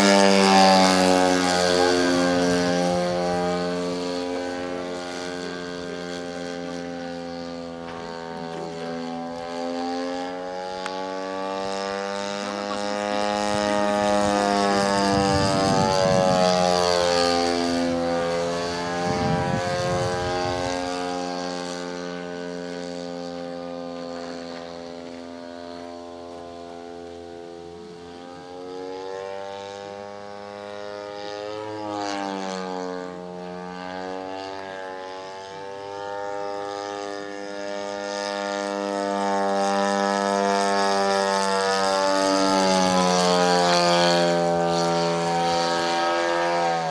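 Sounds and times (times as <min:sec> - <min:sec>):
model airplane engine flying past: 0:00.0 - 0:46.9.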